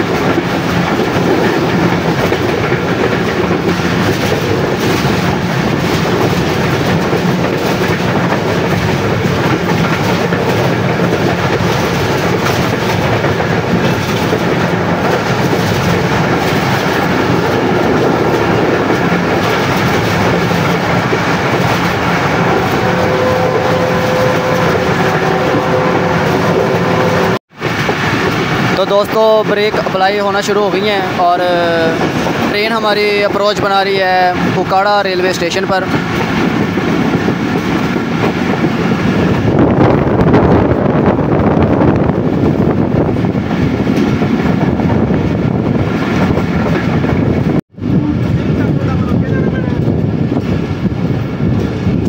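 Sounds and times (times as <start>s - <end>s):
train wheels running over track: 0.0s - 52.0s.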